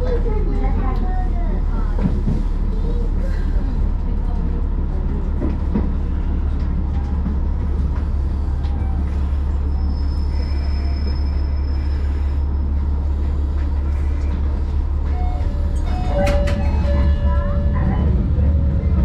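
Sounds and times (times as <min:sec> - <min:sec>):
railcar engine rumble: 0:00.0 - 0:19.0.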